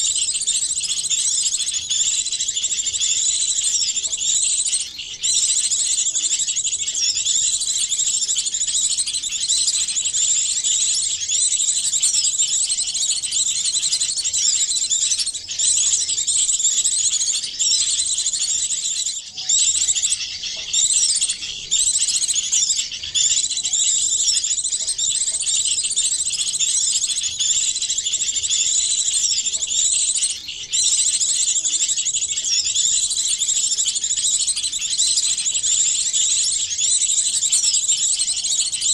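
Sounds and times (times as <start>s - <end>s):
small songbirds twittering: 0.0s - 38.9s.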